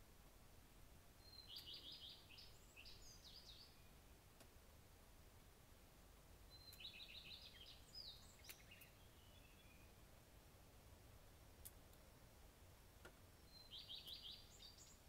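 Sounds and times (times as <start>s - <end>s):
faint songbird song: 0.0s - 15.0s.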